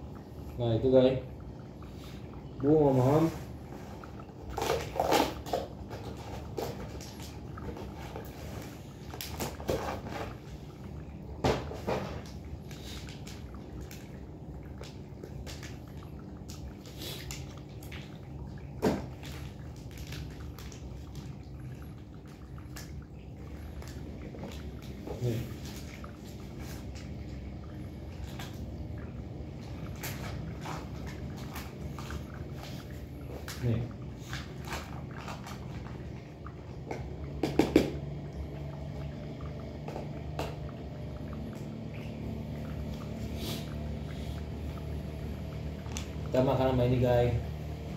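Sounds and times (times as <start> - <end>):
low steady hum: 0.0 - 47.9.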